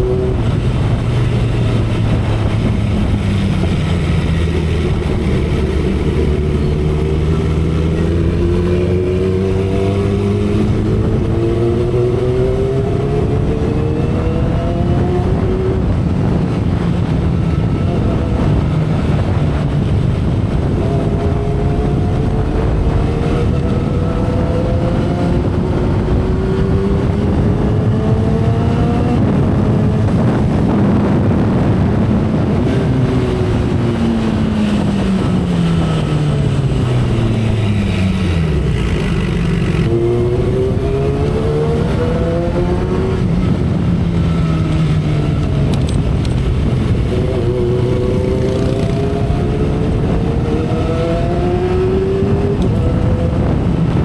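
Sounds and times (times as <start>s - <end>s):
heavy wind rush: 0.0s - 54.0s
motorcycle engine accelerating: 0.0s - 54.0s.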